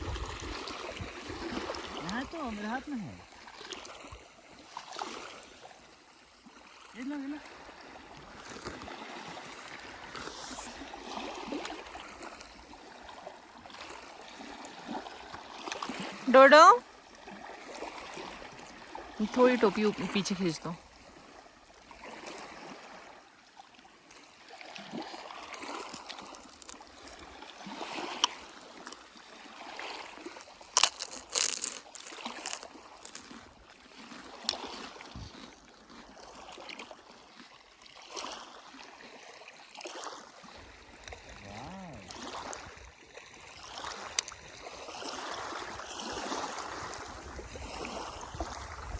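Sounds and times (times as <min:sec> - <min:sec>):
small waves lapping on shore: 0:00.0 - 0:48.9.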